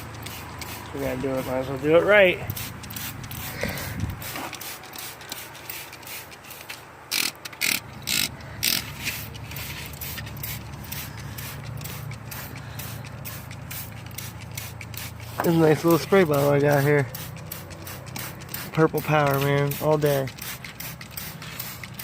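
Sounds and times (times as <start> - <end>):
spray bottle hissing squirts: 0.0 - 1.7, 2.3 - 22.0.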